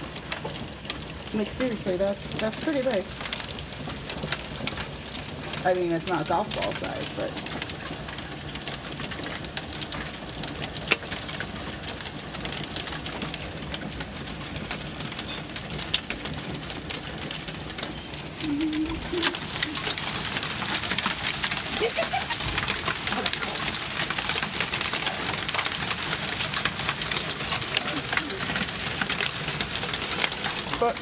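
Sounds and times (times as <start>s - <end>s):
hail and rain falling: 0.0s - 31.0s.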